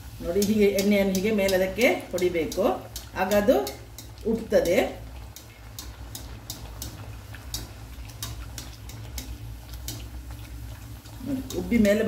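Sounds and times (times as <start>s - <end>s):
oil crackling and popping: 0.0s - 12.0s.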